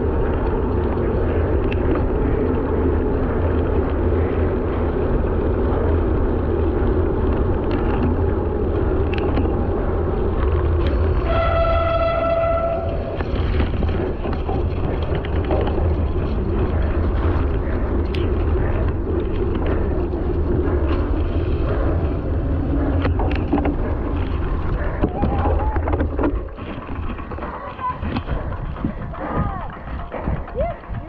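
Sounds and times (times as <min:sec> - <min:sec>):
bike clicks and knocks: 0:00.0 - 0:31.0
bike tyres rolling on gravel: 0:00.0 - 0:31.0
wind buffeting microphone: 0:00.0 - 0:31.0.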